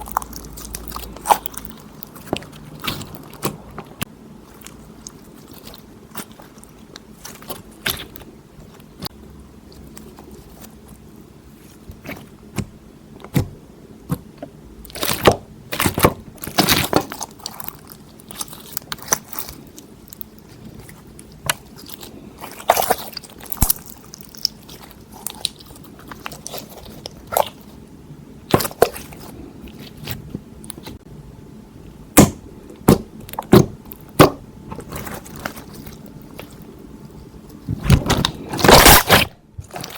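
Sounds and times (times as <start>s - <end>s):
slime squelching by hand: 0.0s - 31.0s, 32.2s - 39.9s.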